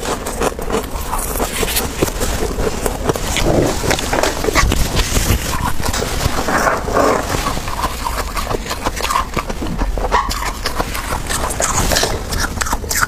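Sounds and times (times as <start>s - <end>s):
spoon scraping frost: 0.0s - 13.0s.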